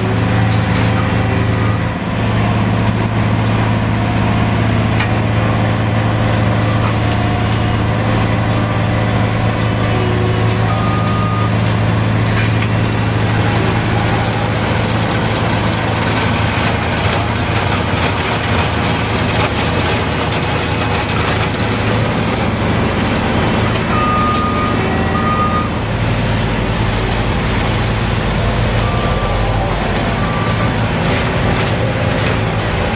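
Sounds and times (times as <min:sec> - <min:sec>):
heavy machinery diesel hum: 0:00.0 - 0:32.9.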